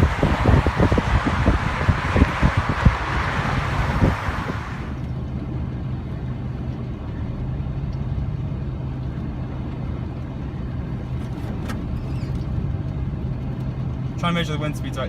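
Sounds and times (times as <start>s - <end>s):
wind noise in car: 0.0s - 14.2s
car engine and cabin hum: 0.0s - 15.0s.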